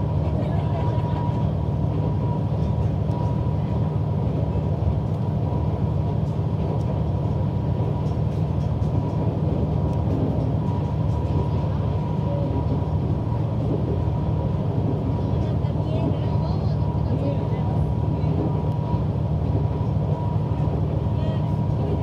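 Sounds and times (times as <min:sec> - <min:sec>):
train engine and wheels rumbling: 0:00.0 - 0:22.0.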